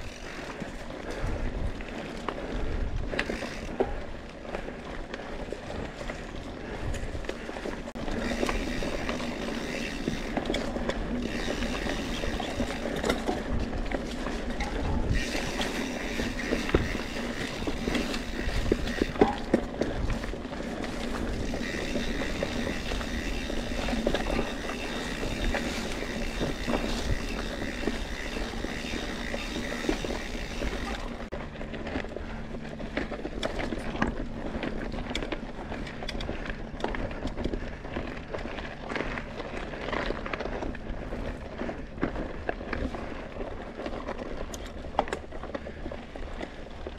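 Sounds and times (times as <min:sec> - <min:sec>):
bike knocking and rattling: 0:00.0 - 0:46.9
bike tyres on dirt and stones: 0:00.0 - 0:46.9.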